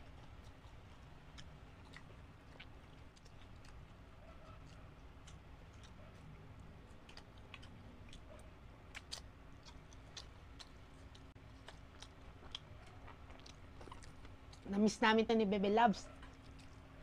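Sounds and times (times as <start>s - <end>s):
chewing and biting chicken: 0.0s - 14.8s, 16.0s - 17.0s
low steady hum: 0.0s - 17.0s.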